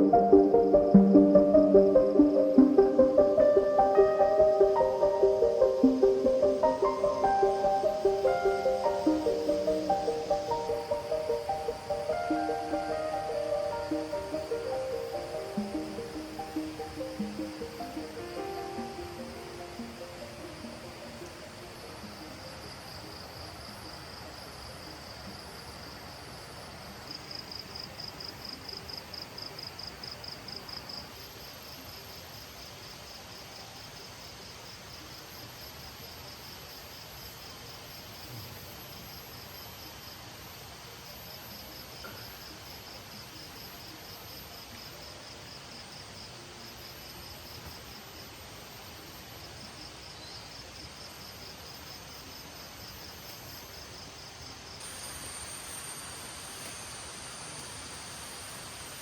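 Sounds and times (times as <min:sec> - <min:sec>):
background hiss: 0:00.0 - 0:59.0
crickets chirping trill: 0:00.0 - 0:59.0
high steady insect tone: 0:00.0 - 0:59.0.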